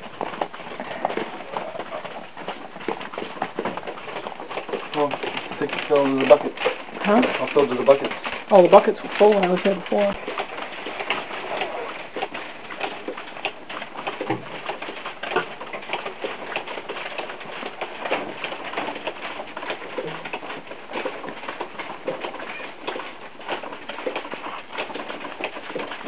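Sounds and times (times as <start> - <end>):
water dripping and splashing: 0.0 - 26.0.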